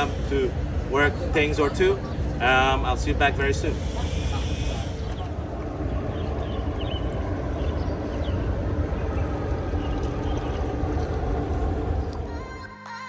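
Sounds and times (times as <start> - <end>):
motor running with low rumble: 0.0 - 12.7
faint steady hum: 0.0 - 13.0.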